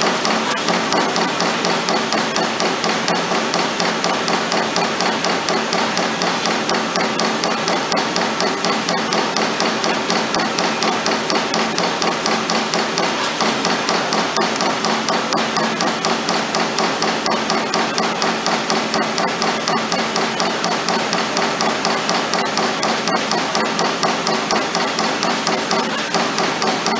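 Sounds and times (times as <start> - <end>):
turret punch punching sheet metal: 0.0 - 26.9.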